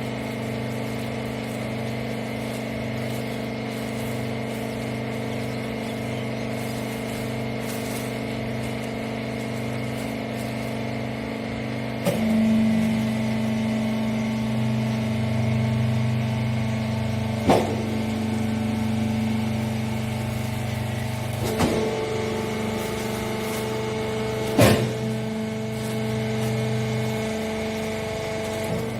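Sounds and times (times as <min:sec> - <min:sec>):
hydraulic power unit humming: 0:00.0 - 0:28.9.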